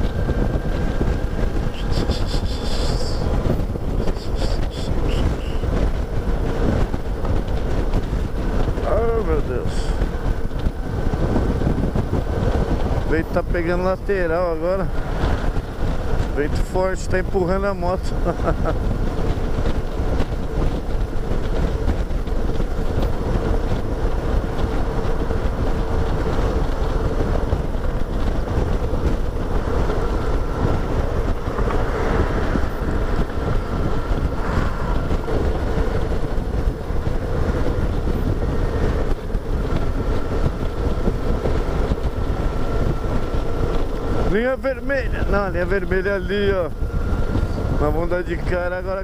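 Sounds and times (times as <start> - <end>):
motorcycle engine running: 0.0 - 49.0
wind on microphone: 0.0 - 49.0.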